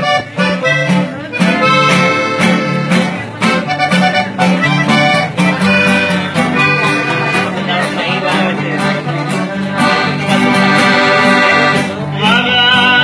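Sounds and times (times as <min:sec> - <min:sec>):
steady beat: 0:00.0 - 0:11.8
accordion melody: 0:00.0 - 0:13.0
bass line: 0:00.0 - 0:13.0.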